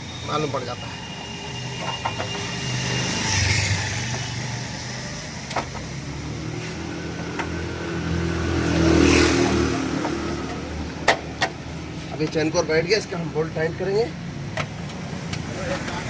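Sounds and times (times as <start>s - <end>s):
motor vehicle engine: 0.0s - 16.0s.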